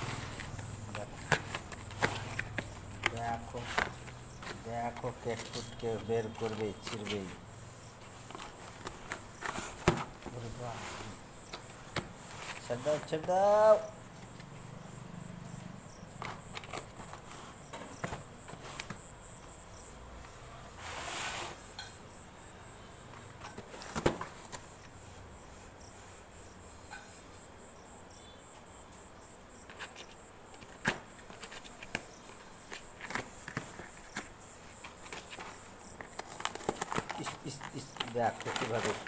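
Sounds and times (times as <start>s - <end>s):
high insect trill: 0.0s - 39.0s.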